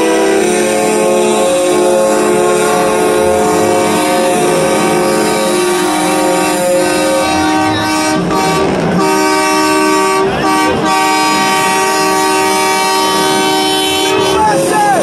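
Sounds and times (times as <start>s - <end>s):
truck air horns blowing: 0.0s - 15.0s.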